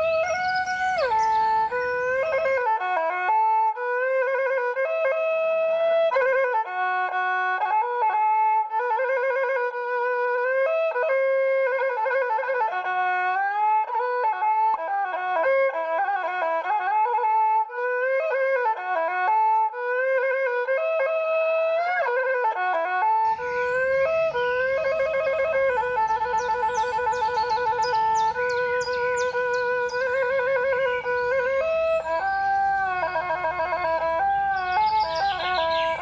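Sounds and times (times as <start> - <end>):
bowed fiddle solo melody: 0.0 - 16.5, 21.9 - 36.0.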